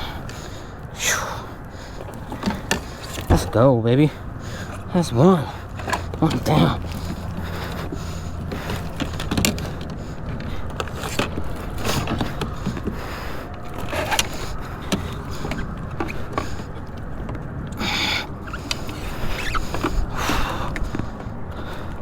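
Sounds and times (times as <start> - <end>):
steady low rumble: 0.0 - 22.0
clicks and knocks on kayak: 1.9 - 3.6, 5.6 - 22.0.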